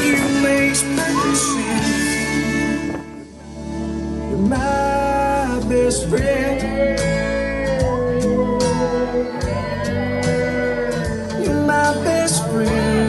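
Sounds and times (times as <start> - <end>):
person singing long notes: 0.0 - 3.3, 4.3 - 13.0
band playing: 0.0 - 13.0.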